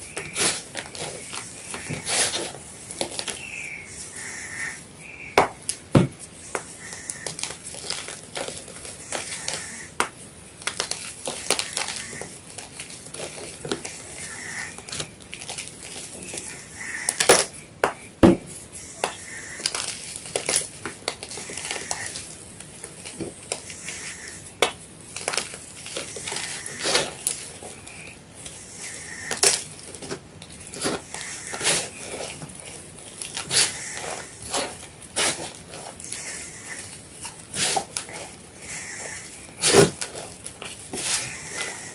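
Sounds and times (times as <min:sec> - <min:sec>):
chalk being crunched: 0:00.0 - 0:04.8, 0:05.7 - 0:17.6, 0:18.5 - 0:41.9.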